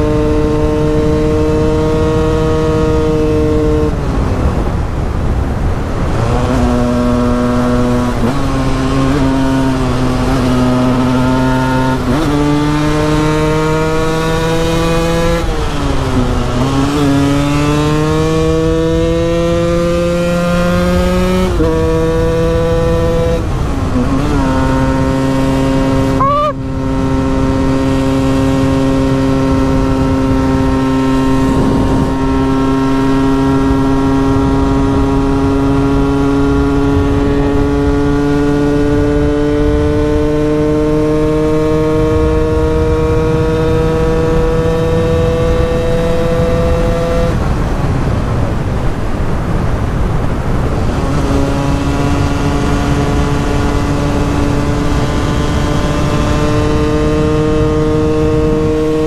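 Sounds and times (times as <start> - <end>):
motorcycle engine accelerating: 0.0 - 59.0
wind rush: 0.0 - 59.0.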